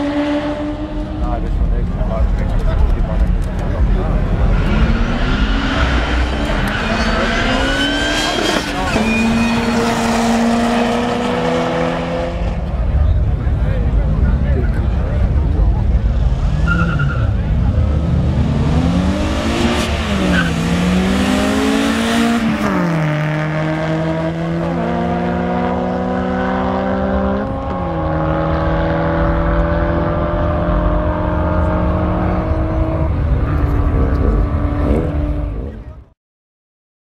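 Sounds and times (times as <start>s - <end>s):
car engine at full throttle: 0.0s - 36.2s.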